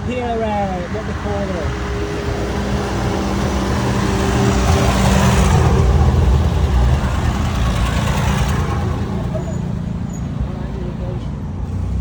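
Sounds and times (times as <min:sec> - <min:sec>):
tractor engine passing by: 0:00.0 - 0:12.0.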